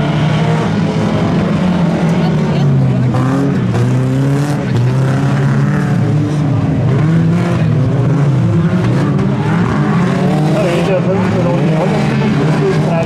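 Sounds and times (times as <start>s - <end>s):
racing car engines: 0.0s - 13.0s.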